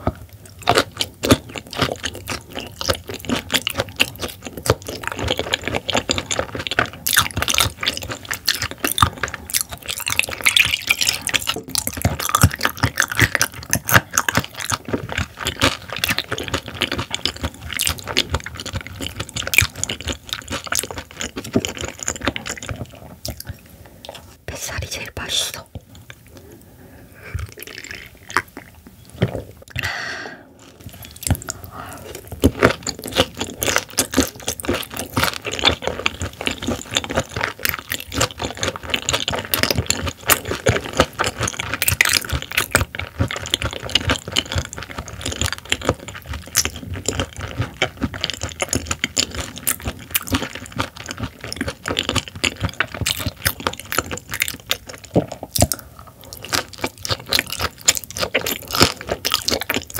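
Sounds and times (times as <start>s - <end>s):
wet chewing mouth sounds: 0.0s - 59.9s.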